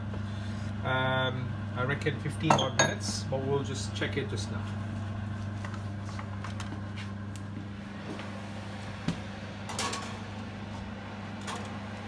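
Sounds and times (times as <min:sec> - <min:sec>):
fan oven humming: 0:00.0 - 0:12.0.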